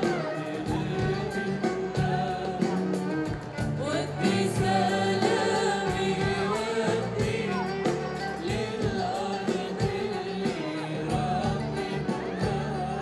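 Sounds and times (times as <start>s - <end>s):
band accompaniment with steady beat: 0.0s - 13.0s
woman singing: 0.0s - 13.0s.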